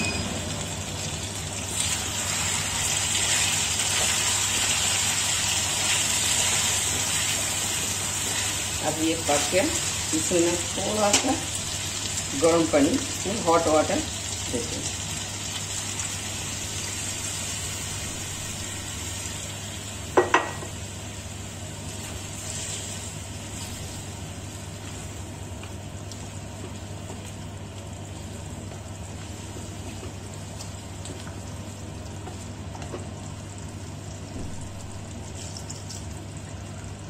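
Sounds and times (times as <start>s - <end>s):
curry sizzling and bubbling: 0.0s - 37.0s.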